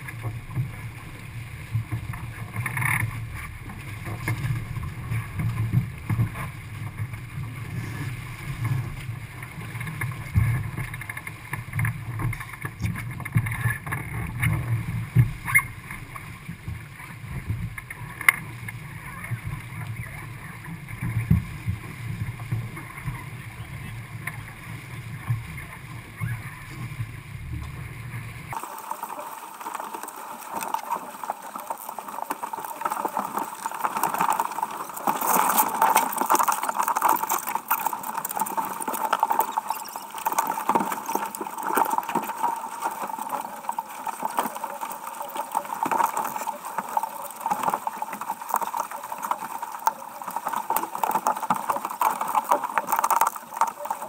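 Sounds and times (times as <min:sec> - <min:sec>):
water rushing along boat hull: 0:00.0 - 0:54.0.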